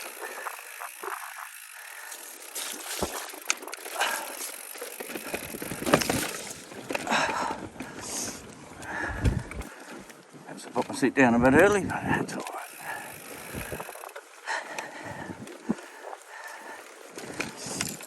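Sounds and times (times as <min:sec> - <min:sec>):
bike knocking and rattling: 0:00.0 - 0:18.0
bike tyres on rocky dirt: 0:00.0 - 0:18.0.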